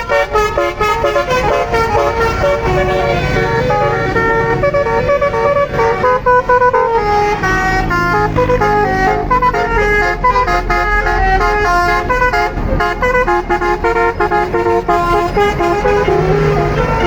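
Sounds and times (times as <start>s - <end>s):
bus horn playing melody: 0.0s - 17.0s.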